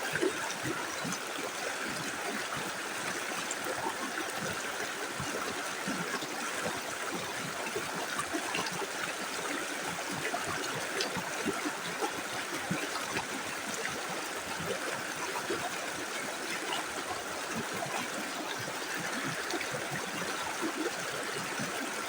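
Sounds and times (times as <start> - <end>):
river running over stones: 0.0 - 22.0.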